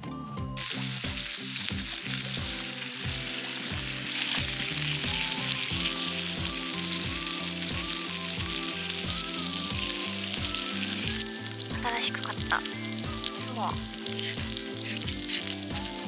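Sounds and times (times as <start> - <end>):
background music with beat: 0.0 - 16.0
dumplings sizzling in a pan: 0.3 - 16.0.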